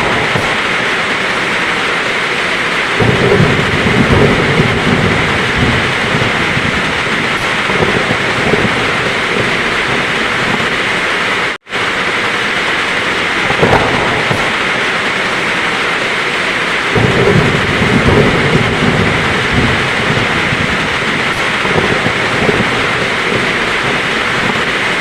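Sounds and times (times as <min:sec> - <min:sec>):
heavy rain pouring: 0:00.0 - 0:25.0
thunder rumbling low: 0:00.0 - 0:25.0.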